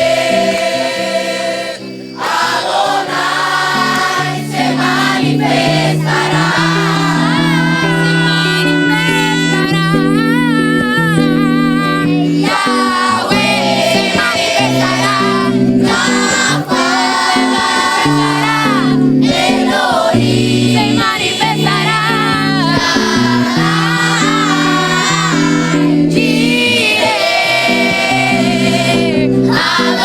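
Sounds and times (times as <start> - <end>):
held instrumental chords: 0.0 - 30.0
voices singing together: 0.0 - 30.0.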